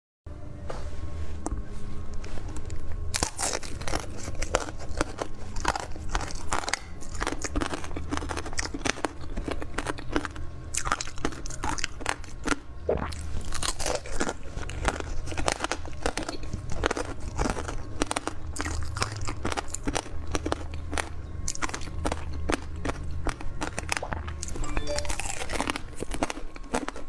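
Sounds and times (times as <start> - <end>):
crunching and chewing food: 1.4 - 27.0.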